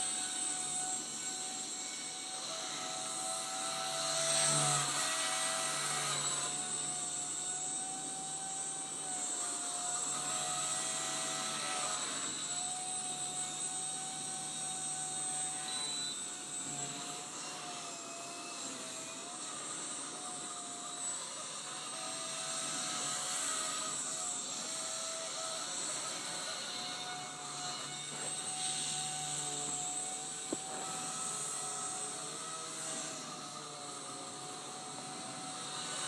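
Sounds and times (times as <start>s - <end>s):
rc helicopter motor and rotor whine: 0.0s - 36.0s.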